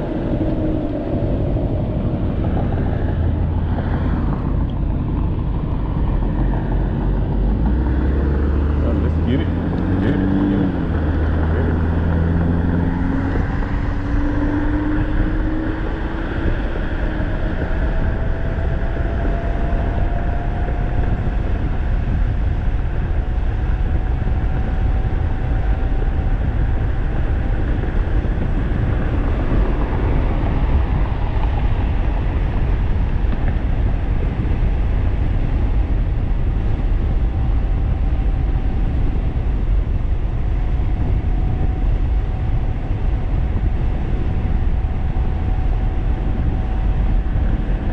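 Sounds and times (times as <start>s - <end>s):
wind rushing over microphone: 0.0s - 47.9s.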